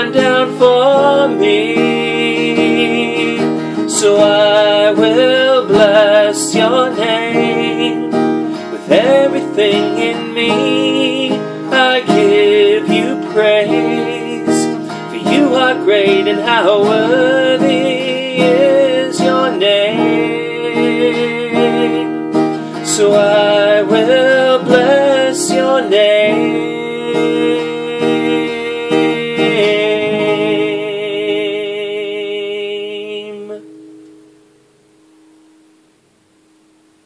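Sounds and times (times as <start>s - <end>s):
man singing: 0.0s - 33.8s
strummed acoustic guitar: 0.0s - 37.0s.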